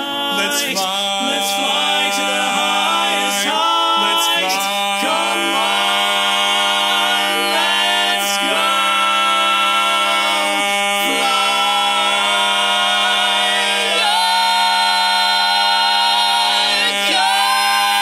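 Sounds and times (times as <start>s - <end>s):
men singing a cappella harmony: 0.0s - 18.0s.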